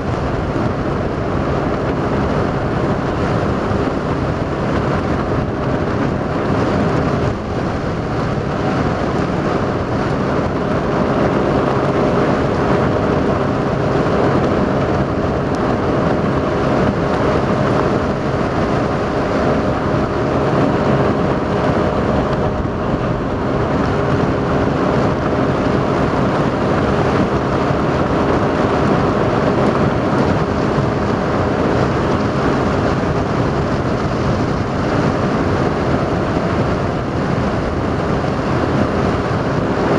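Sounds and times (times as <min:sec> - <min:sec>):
boat engine humming: 0:00.0 - 0:39.9
water rushing: 0:00.0 - 0:39.9
wind noise: 0:00.0 - 0:39.9.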